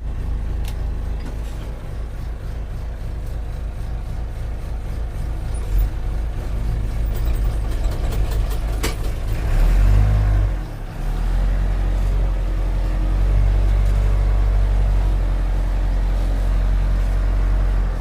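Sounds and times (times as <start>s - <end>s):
engine idling with low rumble: 0.0s - 18.0s.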